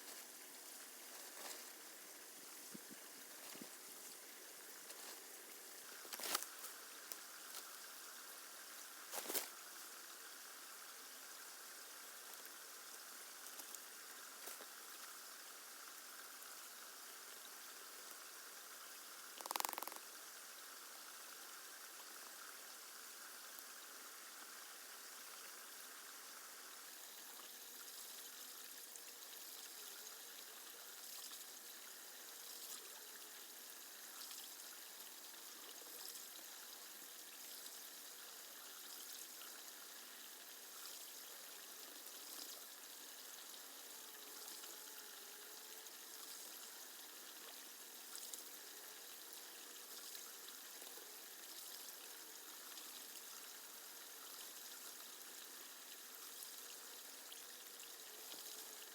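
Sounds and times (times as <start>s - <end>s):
faint trickling water: 0.0s - 58.9s.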